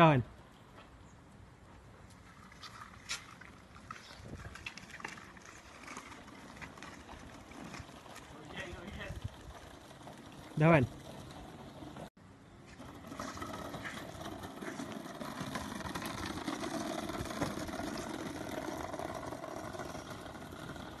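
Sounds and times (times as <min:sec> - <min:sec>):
wheelbarrow wheel rattling rumble: 0:02.3 - 0:12.1, 0:12.7 - 0:21.0.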